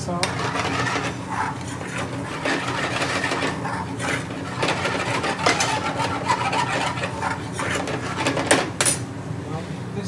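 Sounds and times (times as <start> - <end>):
kitchen equipment hum: 0.0 - 10.0
spoons scraping frying pans: 0.2 - 8.8.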